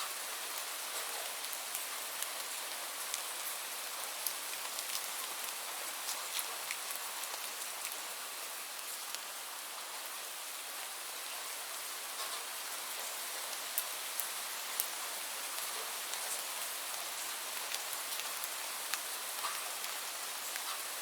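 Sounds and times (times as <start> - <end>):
hiss of falling rain: 0.0 - 21.0
raindrops ticking on a surface: 0.0 - 21.0.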